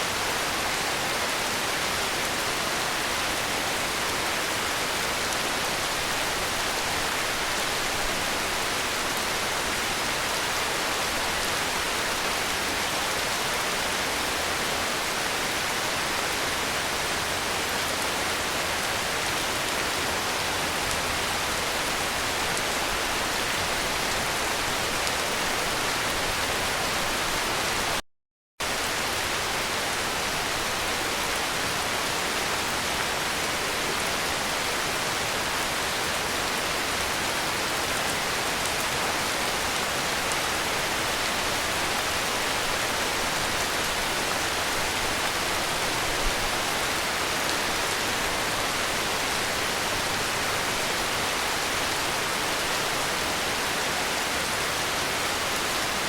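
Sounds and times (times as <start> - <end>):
heavy rain falling: 0.0 - 28.0, 28.6 - 56.0.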